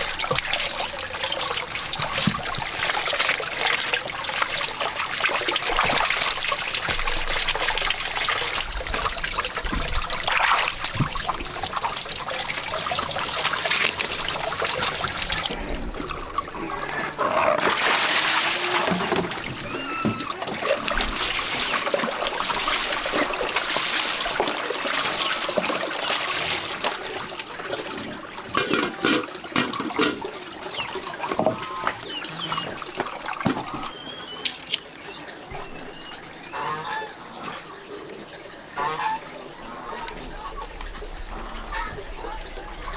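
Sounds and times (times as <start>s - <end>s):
water trickling and splashing: 0.0s - 42.9s.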